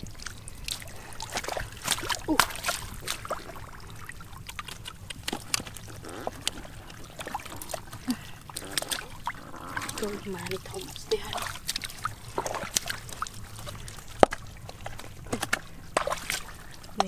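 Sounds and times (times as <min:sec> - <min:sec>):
fish flipping on mud: 0:00.0 - 0:03.6, 0:04.3 - 0:17.0
bare feet wading in water: 0:00.0 - 0:17.0.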